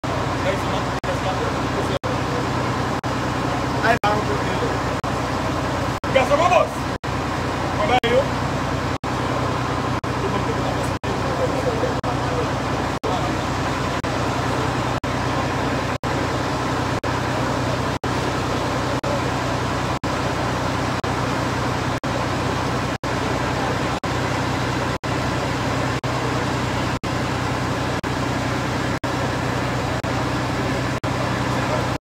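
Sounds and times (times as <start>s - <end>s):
street traffic noise: 0.0s - 32.0s.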